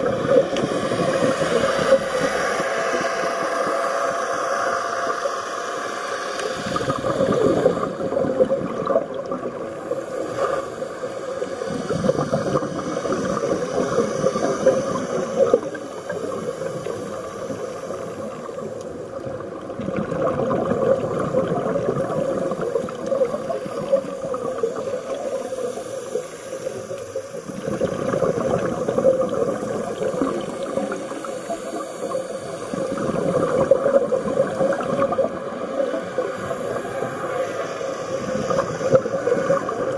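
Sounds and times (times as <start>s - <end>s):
scuba exhaust bubbles gurgling: 0.0s - 39.9s
steady underwater hum: 0.0s - 39.9s.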